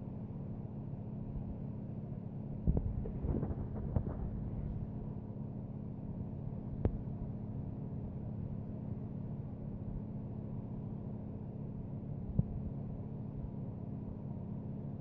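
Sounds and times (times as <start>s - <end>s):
low hum with faint hiss: 0.0s - 15.0s.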